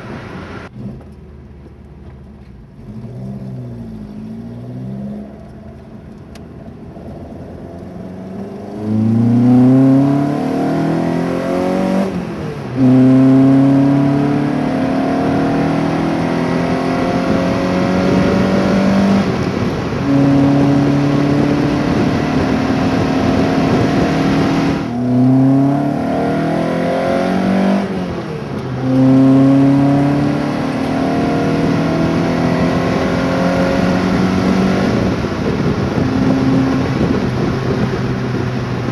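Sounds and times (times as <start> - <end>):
car engine revving through gears: 2.5 - 38.9.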